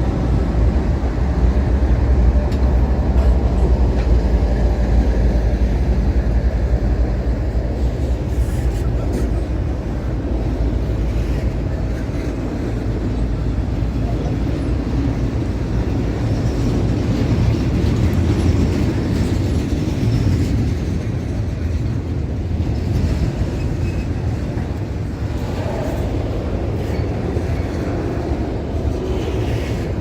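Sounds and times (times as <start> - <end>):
train cars rumbling past: 0.0 - 30.0.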